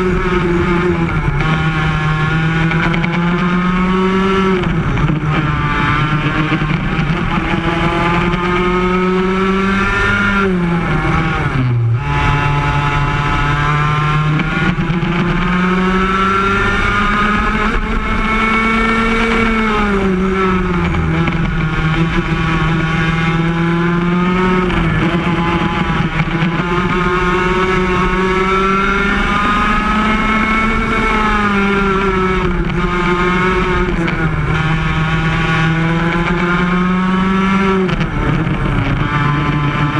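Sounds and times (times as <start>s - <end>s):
kart engine at high revs: 0.0s - 39.9s.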